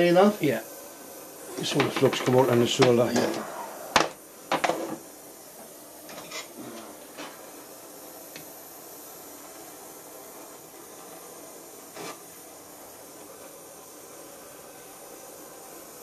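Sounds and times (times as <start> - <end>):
blowtorch flame hissing: 0.0 - 16.0.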